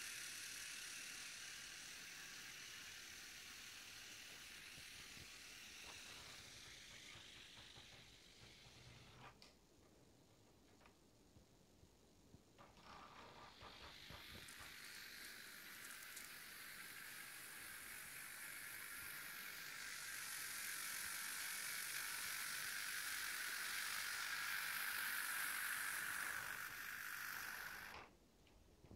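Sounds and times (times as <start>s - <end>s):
model train motor whirring: 0.0s - 9.5s, 12.6s - 28.2s.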